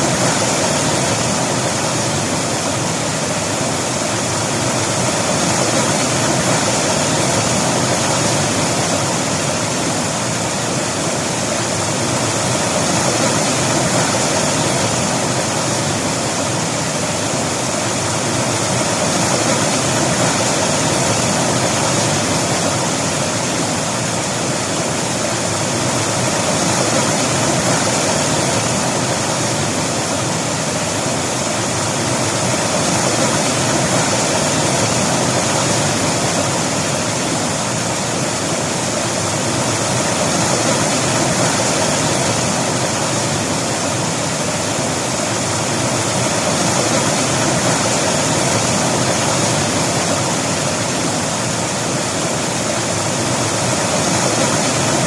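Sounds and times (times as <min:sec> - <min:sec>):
river water rushing and splashing: 0:00.0 - 0:55.0.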